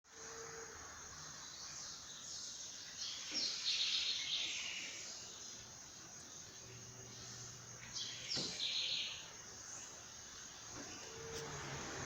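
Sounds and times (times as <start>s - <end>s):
outdoor background noise: 0.1s - 12.0s
birds chirping: 1.2s - 11.3s.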